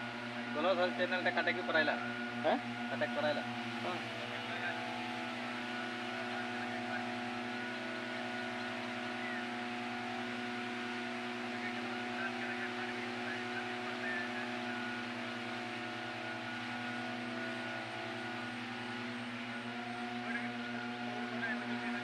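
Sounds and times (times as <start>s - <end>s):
small engine droning: 0.0s - 22.0s.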